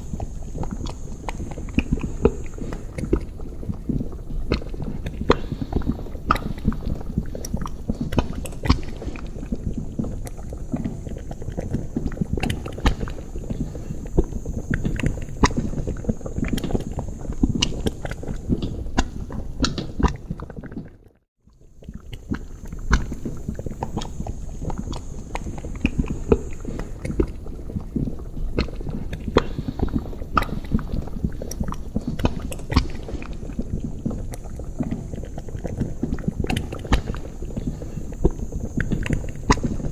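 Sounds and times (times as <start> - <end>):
thick liquid bubbling: 0.0 - 39.9.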